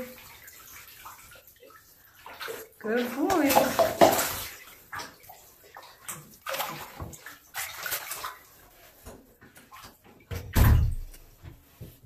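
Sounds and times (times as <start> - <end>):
bath water splashing: 0.0 - 12.0.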